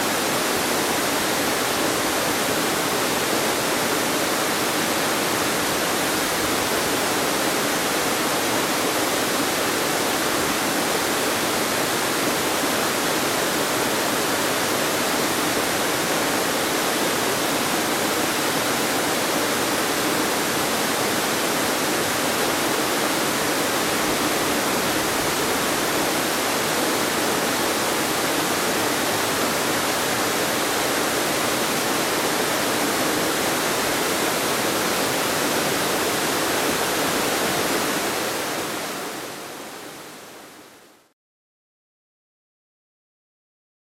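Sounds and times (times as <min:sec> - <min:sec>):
waterfall rushing: 0:00.0 - 0:40.7.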